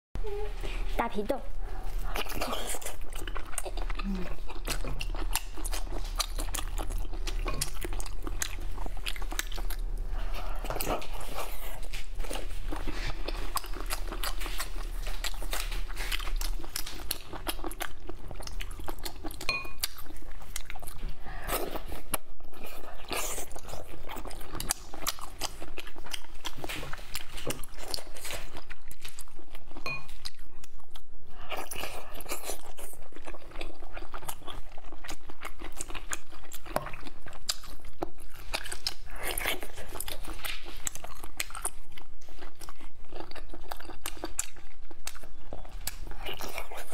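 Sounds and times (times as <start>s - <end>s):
wet chewing and lip-smacking: 1.9s - 46.9s.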